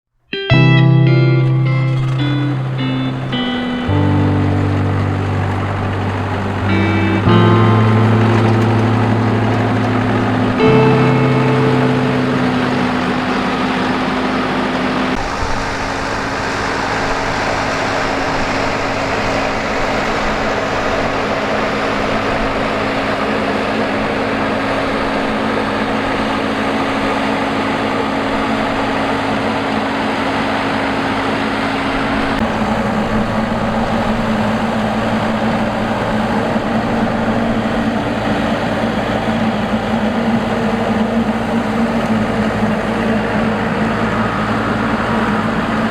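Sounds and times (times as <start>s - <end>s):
combine harvester engine running: 1.9s - 45.9s.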